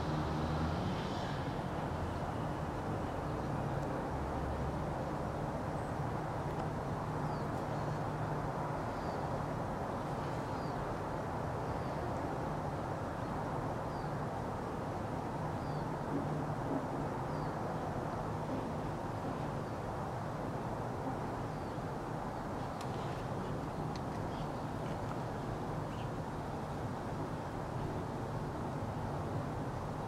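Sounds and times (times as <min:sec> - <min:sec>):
distant traffic rumble: 0:00.0 - 0:30.0.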